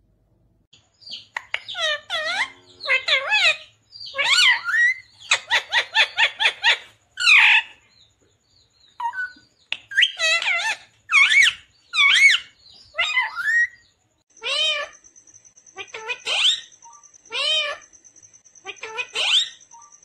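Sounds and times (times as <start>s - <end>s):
parakeet calling: 1.0s - 18.0s, 18.6s - 20.0s.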